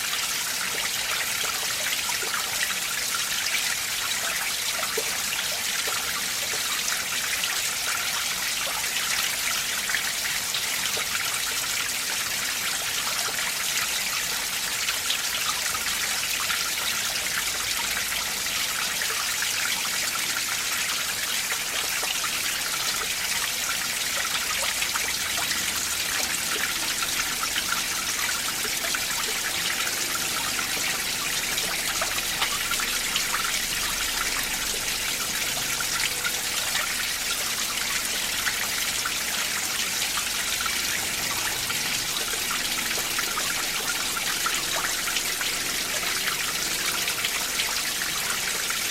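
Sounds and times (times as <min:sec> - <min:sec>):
water trickles and splashes: 0:00.0 - 0:48.9.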